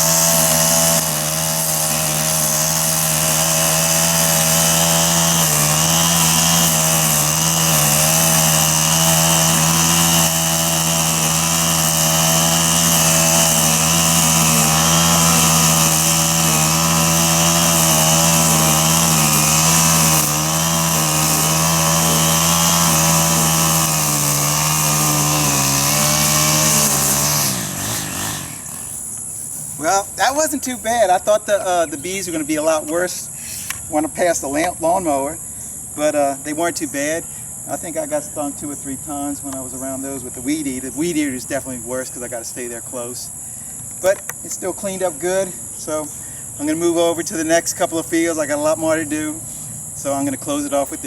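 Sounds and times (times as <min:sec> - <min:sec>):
string trimmer engine running: 0:00.0 - 0:51.0.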